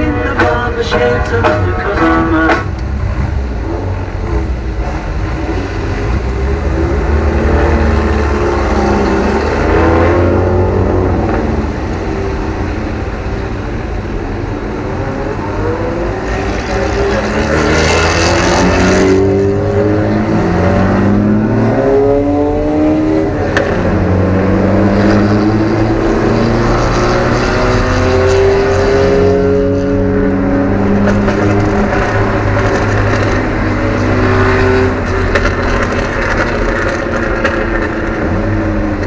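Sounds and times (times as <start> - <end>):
car engine accelerating hard: 0.0 - 39.0.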